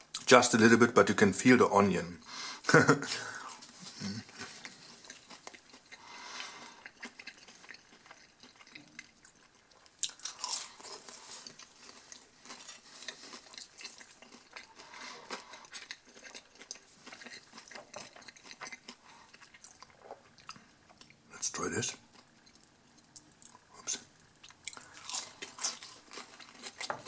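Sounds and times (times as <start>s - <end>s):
person chewing onion ring crunches: 3.5s - 21.2s, 22.1s - 27.0s.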